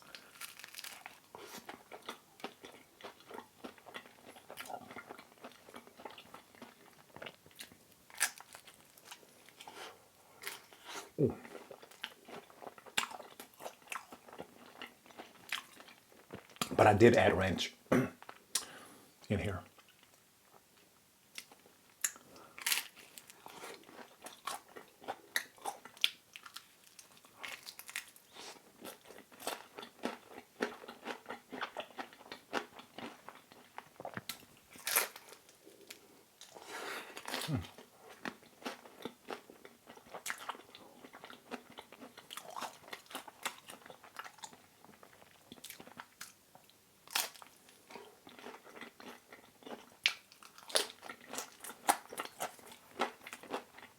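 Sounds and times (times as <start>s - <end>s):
chewing crisp pizza: 0.0s - 17.0s, 21.4s - 53.9s.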